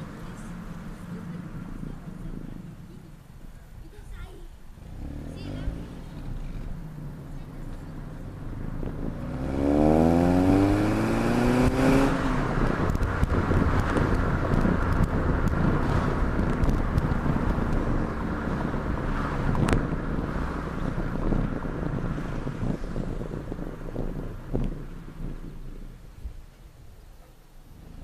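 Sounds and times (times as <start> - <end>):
road and wind noise: 0.0 - 28.0
car exhaust revving: 4.6 - 28.0.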